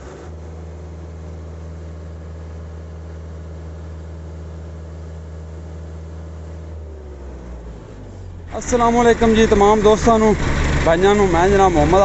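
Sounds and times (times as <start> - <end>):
tractor diesel engine at high revs: 0.0 - 12.0.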